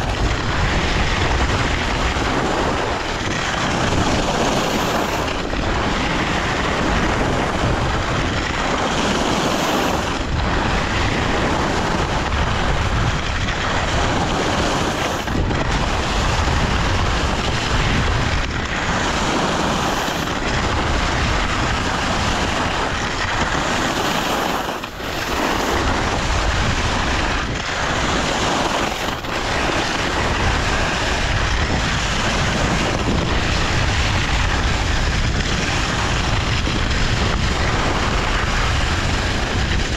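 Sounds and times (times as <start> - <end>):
skis running over snow: 0.0 - 39.9
wind rushing on microphone: 0.0 - 39.9.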